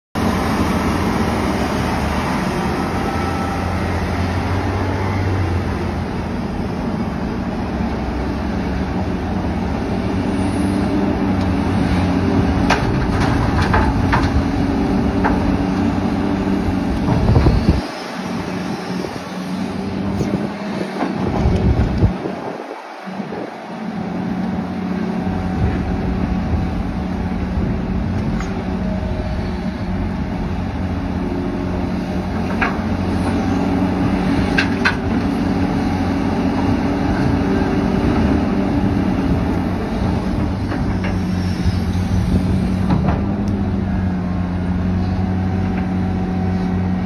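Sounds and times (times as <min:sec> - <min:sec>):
excavator diesel engine: 0:00.2 - 0:47.0.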